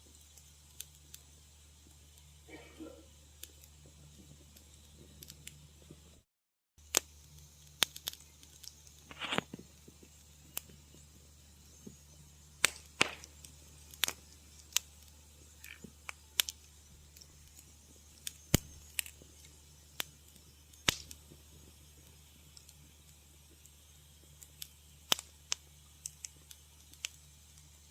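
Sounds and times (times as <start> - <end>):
low steady hum: 0.0 - 6.2, 6.8 - 27.9
wood fire crackling: 0.0 - 6.2, 6.8 - 27.9.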